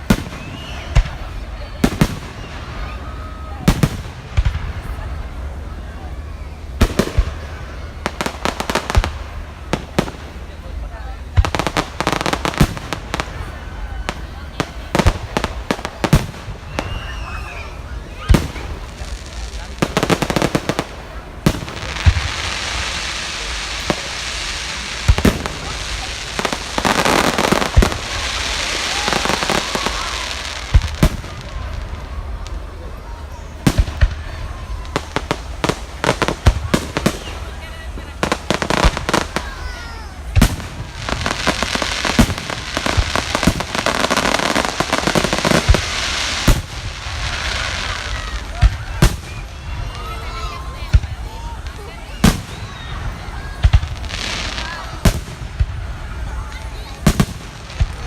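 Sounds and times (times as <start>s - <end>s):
firework cracks: 0.0s - 5.5s, 6.7s - 58.0s
firework crackling: 0.0s - 58.0s
steady hiss: 0.0s - 58.0s.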